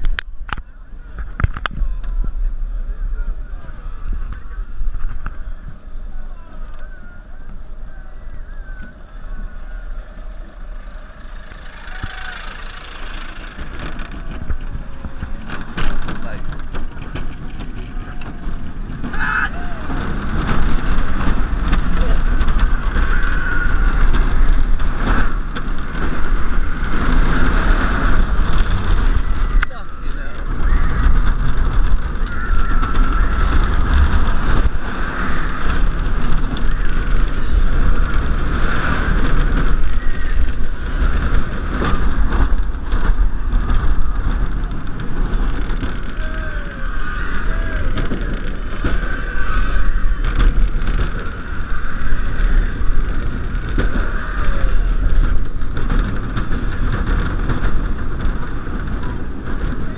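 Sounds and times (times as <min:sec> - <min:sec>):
roller coaster wheels rumbling on track: 0:00.0 - 0:59.9
wind buffeting the microphone: 0:00.0 - 0:59.9.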